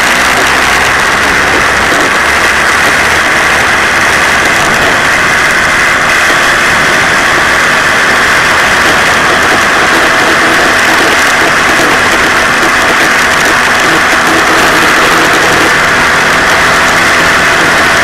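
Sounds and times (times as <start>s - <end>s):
moped engine running: 0.0s - 18.0s
wind on microphone: 0.0s - 18.0s.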